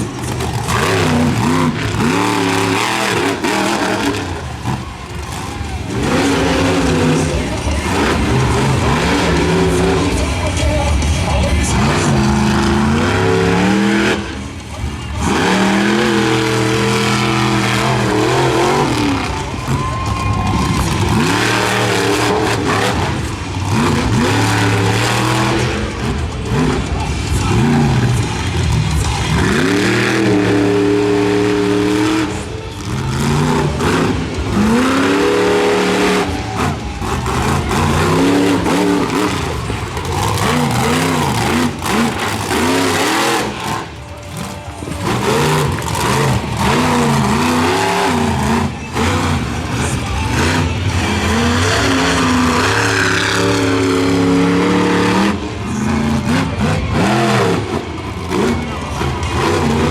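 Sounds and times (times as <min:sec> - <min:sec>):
truck engine revving hard: 0:00.0 - 0:59.9.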